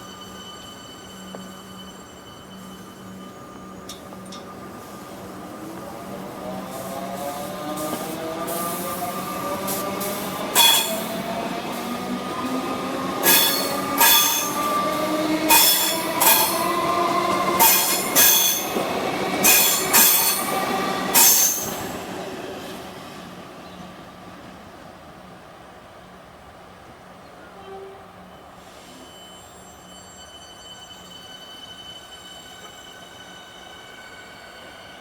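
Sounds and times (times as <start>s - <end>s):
train wheel squeals: 0.0s - 22.1s, 27.5s - 35.0s.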